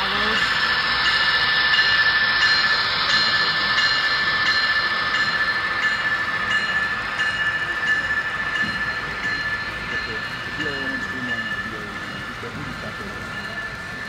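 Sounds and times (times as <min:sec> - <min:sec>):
model locomotive engine whine: 0:00.0 - 0:14.0.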